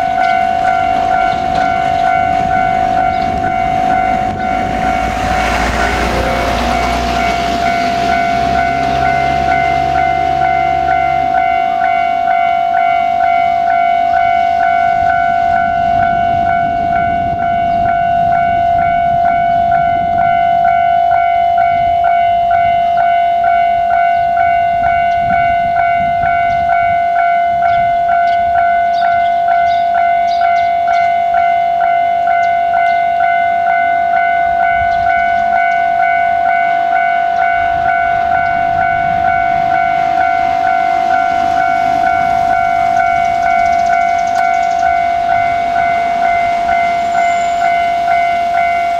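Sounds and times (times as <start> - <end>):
level crossing bell dinging: 0.0 - 48.9.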